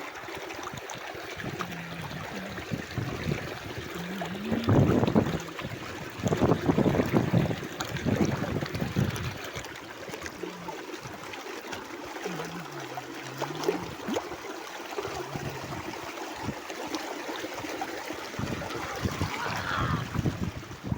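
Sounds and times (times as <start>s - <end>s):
running water splashing: 0.0s - 20.9s.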